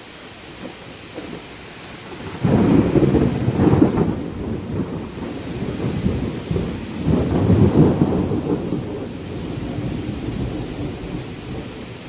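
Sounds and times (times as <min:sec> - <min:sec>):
steady rain: 0:00.0 - 0:12.0
thunder rumbling: 0:00.4 - 0:12.0.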